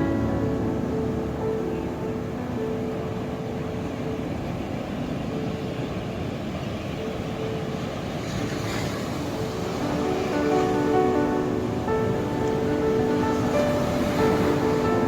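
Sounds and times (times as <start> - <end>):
ocean waves washing in: 0.0 - 15.0
soft background music: 0.0 - 15.0.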